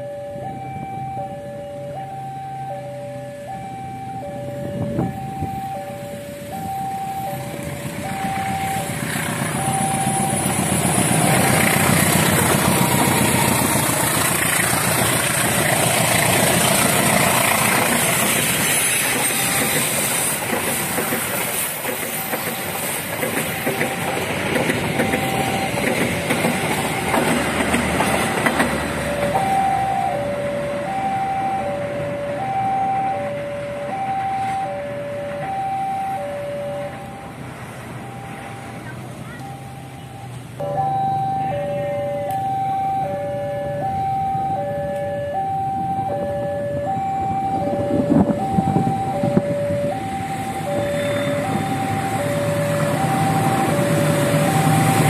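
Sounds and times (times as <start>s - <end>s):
two-tone crossing alarm: 0.0s - 55.0s
train rumbling past: 3.4s - 55.0s.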